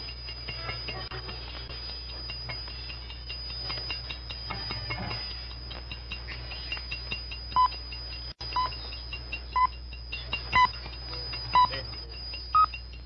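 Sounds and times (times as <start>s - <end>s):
short time signal beeps: 0.0s - 13.0s
watch ticking quickly: 0.0s - 13.0s.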